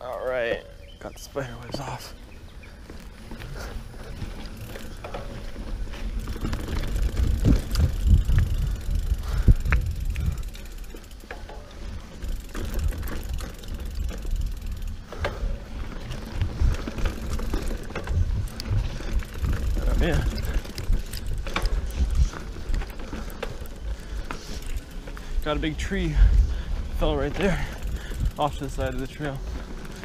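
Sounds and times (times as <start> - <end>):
bike rattling over bumps: 0.0 - 30.0
bike tyres rumbling on dirt: 0.0 - 30.0.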